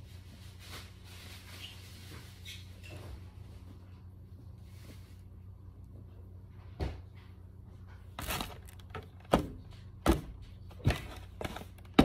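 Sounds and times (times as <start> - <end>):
steady low hum: 2.0 - 12.0.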